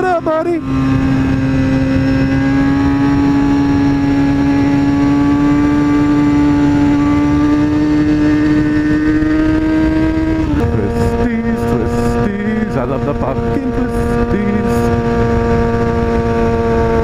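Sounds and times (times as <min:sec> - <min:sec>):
motorcycle engine pulling: 0:00.0 - 0:17.0.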